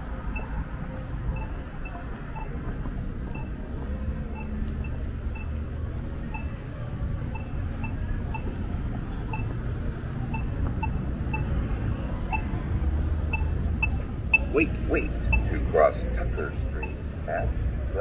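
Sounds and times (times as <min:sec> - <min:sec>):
street traffic rumble: 0:00.0 - 0:18.0
crosswalk signal beeps: 0:00.1 - 0:17.2.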